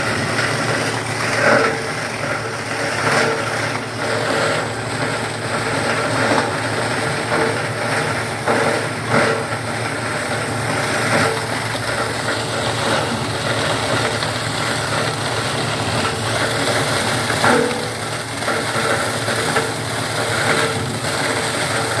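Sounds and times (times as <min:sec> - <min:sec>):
cardboard crunching in shredder: 0:00.0 - 0:22.0.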